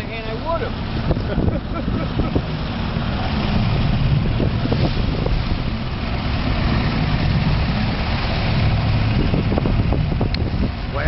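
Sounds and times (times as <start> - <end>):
motorboat engine rumbling: 0.0 - 11.0
water noise: 0.0 - 11.0
wind rushing: 0.7 - 11.0.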